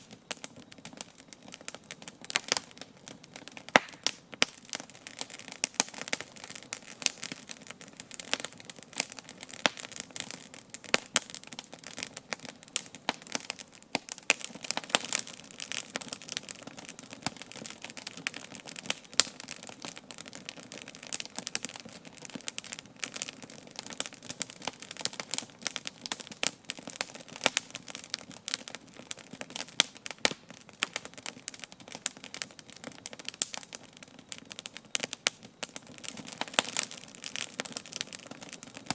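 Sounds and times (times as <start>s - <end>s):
campfire snaps and pops: 0.0s - 38.9s.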